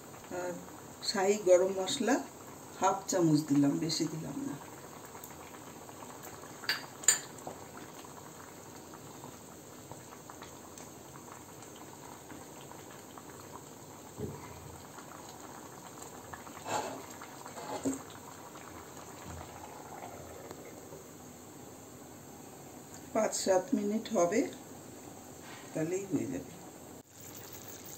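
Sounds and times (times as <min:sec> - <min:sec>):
curry bubbling in a pan: 0:00.0 - 0:23.1, 0:27.0 - 0:27.9.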